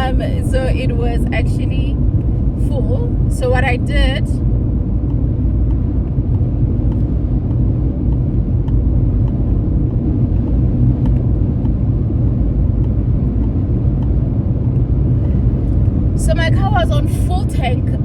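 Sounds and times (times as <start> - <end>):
road and wind noise in car: 0.0 - 18.0.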